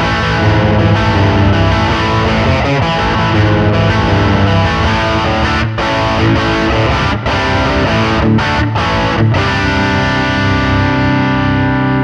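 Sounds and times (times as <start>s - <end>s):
distorted electric guitar chords: 0.0s - 12.0s.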